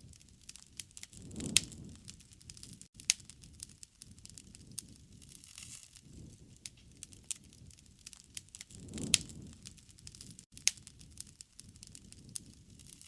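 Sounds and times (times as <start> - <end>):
campfire crackling and popping: 0.0 - 13.0
low rush of flame: 0.0 - 13.0.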